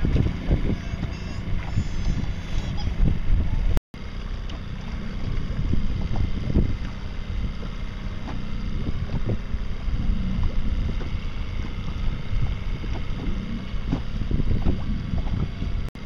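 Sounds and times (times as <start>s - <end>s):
wind buffeting microphone: 0.0s - 3.8s, 4.6s - 16.0s.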